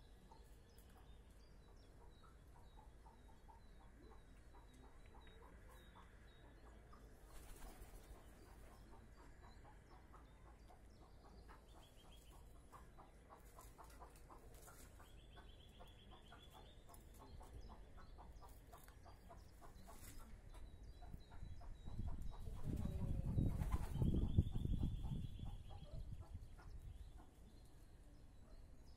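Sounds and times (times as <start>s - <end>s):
bird calls: 0.0s - 28.9s.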